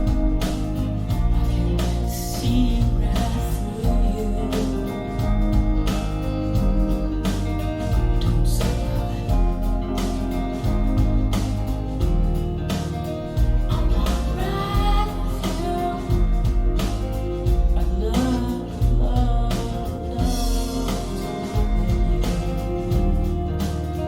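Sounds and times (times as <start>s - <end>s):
song over loudspeakers: 0.0s - 5.9s, 7.9s - 11.4s, 13.2s - 24.0s
heavy bass beat: 0.0s - 24.0s.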